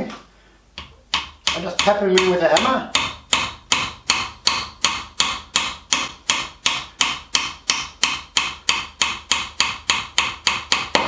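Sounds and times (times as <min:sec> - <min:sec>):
small hammer tapping pencil into wood: 0:00.8 - 0:11.0.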